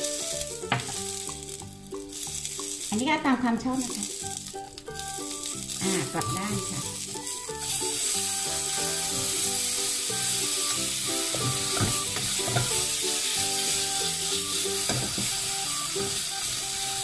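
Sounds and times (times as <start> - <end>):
light background tune: 0.0 - 17.0
tomatoes sizzling in a frying pan: 0.0 - 17.0.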